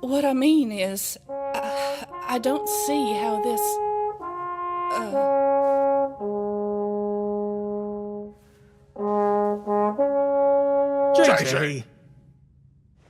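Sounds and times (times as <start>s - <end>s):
brass instrument notes: 1.3s - 11.8s.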